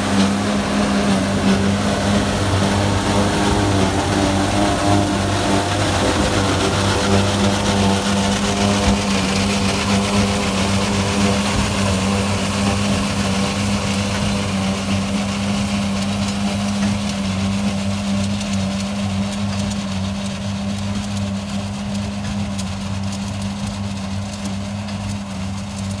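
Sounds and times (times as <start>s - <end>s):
tractor and baler droning: 0.0s - 26.0s.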